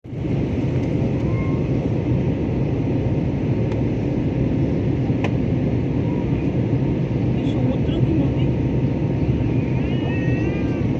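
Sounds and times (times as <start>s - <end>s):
airliner cabin engine noise: 0.0s - 10.9s.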